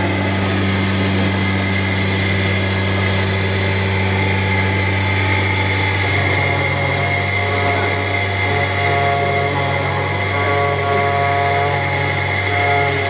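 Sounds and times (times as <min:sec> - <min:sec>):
high spindle whine: 0:00.0 - 0:13.0
router motor hum: 0:00.0 - 0:13.0.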